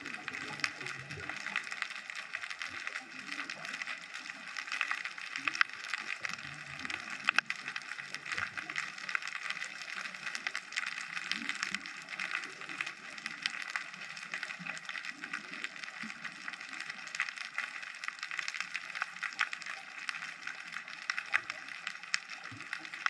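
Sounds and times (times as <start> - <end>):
underwater crackle of tiny clicks: 0.0 - 23.0.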